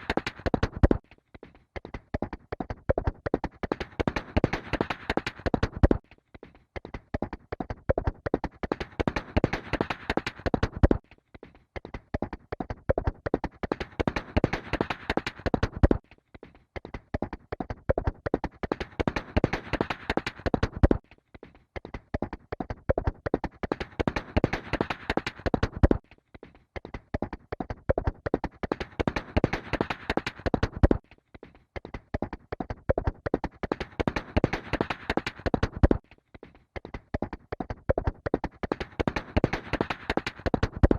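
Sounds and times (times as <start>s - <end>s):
horse hooves galloping: 0.0s - 1.0s, 1.8s - 6.0s, 6.9s - 11.0s, 11.9s - 16.0s, 16.9s - 21.0s, 21.9s - 26.0s, 26.8s - 31.0s, 31.8s - 36.0s, 36.8s - 40.9s.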